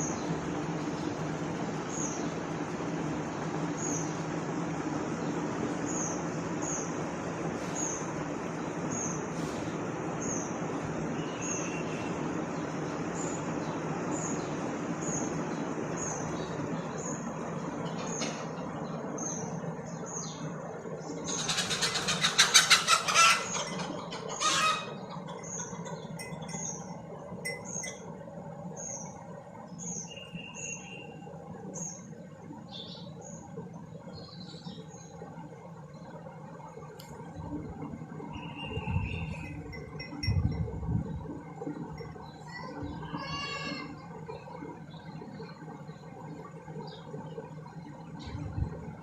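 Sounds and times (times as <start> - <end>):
low background rumble: 0.0 - 49.0.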